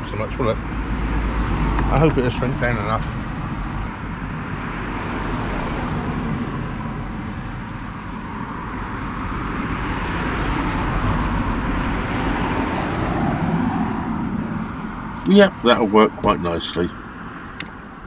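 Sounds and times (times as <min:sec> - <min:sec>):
wind rushing on microphone: 0:00.1 - 0:18.0.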